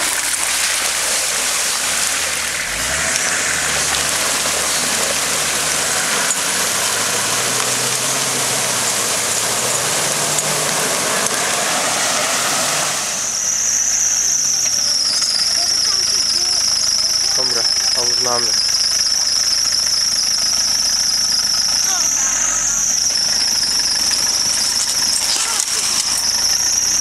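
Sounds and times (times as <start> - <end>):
splashing churning water: 0.0 - 27.0
vehicle engine pulling: 0.0 - 27.0.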